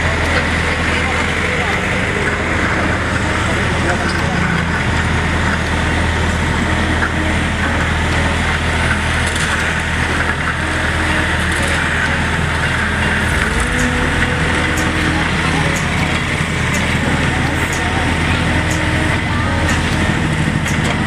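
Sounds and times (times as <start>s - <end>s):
diesel engine running: 0.0s - 21.0s
motorcycles passing: 0.0s - 21.0s.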